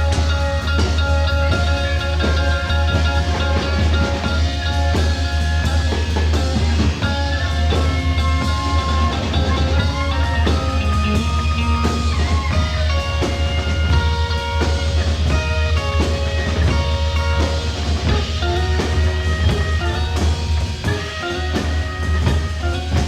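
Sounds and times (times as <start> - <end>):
drum kit: 0.0 - 23.0
rock band playing: 0.0 - 23.0.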